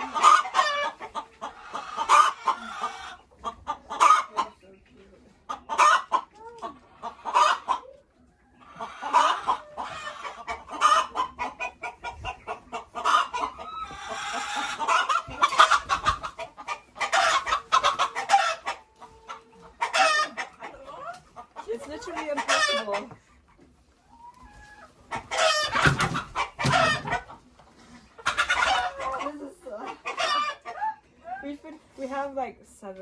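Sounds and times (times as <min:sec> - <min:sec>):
hens clucking and squawking: 0:00.0 - 0:32.4.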